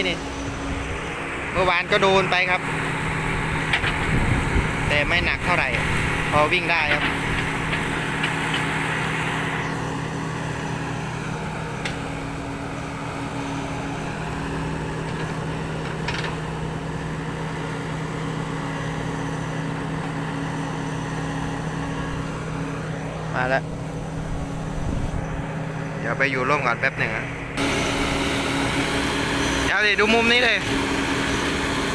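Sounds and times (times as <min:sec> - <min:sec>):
heavy engine idling: 0:00.0 - 0:31.9.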